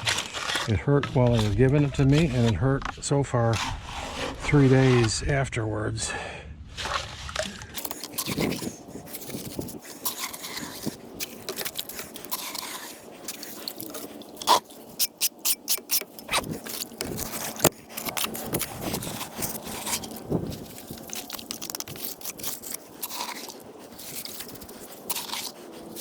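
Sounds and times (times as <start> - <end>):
gritty scraping and crunching: 0.0 - 5.4, 6.8 - 26.0.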